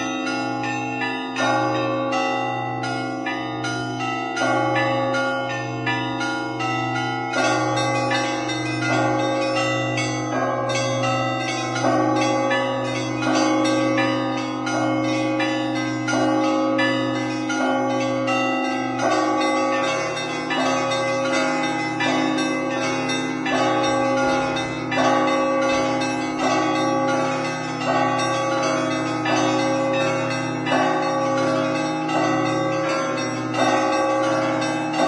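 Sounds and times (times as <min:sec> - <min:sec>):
deep bell humming: 0:00.0 - 0:35.0
middle and small bells struck: 0:00.0 - 0:35.0.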